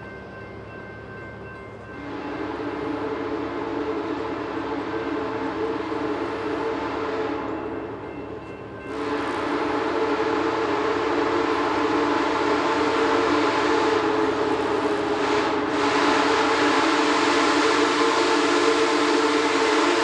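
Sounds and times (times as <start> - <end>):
steam locomotive chime whistle: 0.0 - 20.0.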